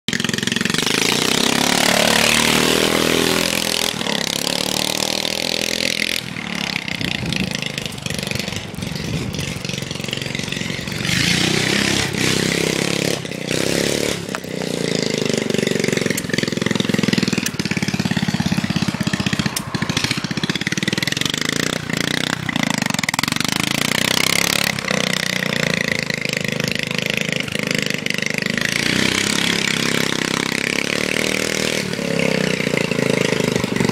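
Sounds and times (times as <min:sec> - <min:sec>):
lawn tractor engine revving: 0:00.0 - 0:33.9.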